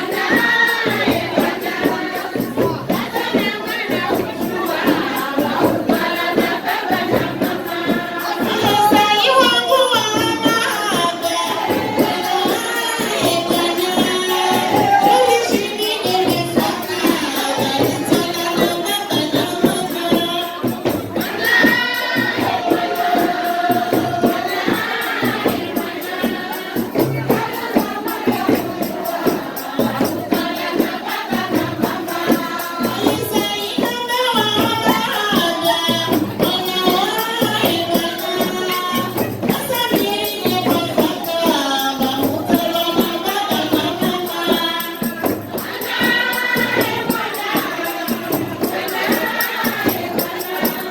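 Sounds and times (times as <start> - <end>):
hand percussion with jingles: 0.0 - 50.9
voices singing together: 0.0 - 50.9.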